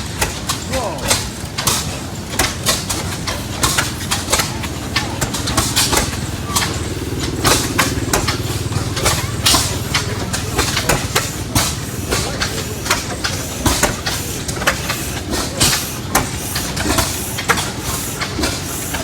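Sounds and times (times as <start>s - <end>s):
engine exhaust pops: 0.2s - 18.7s
low engine rumble: 0.7s - 18.4s.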